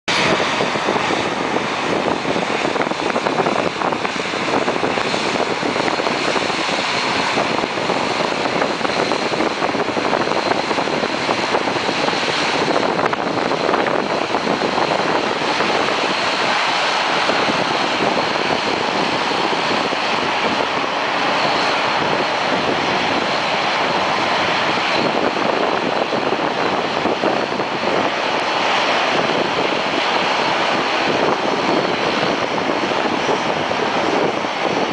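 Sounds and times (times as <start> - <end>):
jet engines roaring: 0.1 - 34.9.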